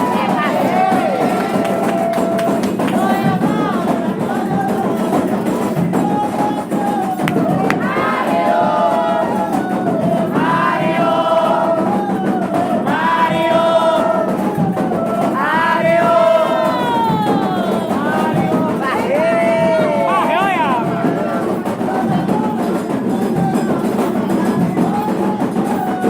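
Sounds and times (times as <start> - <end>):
group chanting: 0.0 - 26.0
steady percussion: 0.0 - 26.0.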